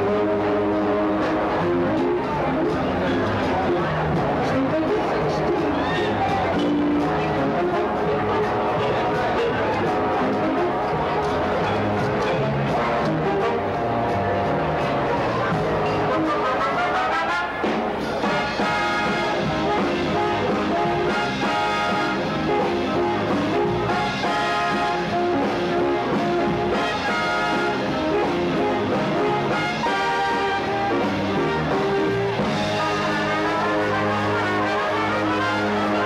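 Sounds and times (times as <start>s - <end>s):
big band brass playing: 0.0s - 36.0s.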